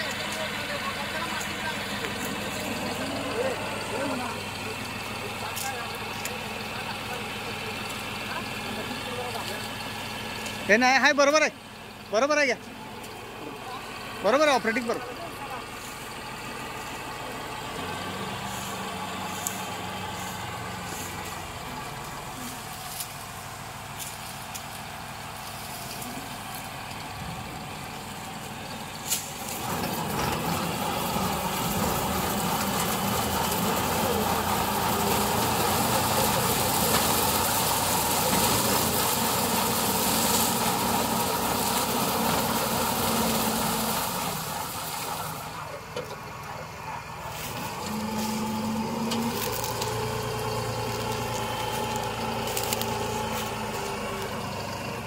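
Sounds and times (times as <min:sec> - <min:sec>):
harvester cutting cane: 0:00.0 - 0:10.8, 0:14.2 - 0:27.5, 0:28.2 - 0:55.0
tractor diesel engine running: 0:00.0 - 0:55.0.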